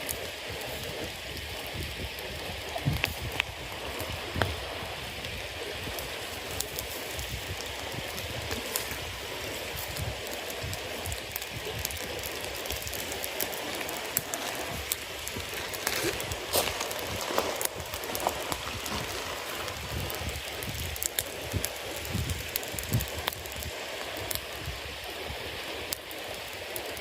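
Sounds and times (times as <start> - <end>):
campfire hissing and crackling: 0.0 - 27.0
fire pops: 0.0 - 27.0.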